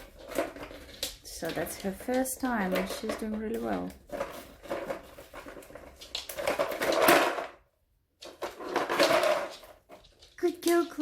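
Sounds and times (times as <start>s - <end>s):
kibble rattling in plastic toy: 0.0s - 11.0s.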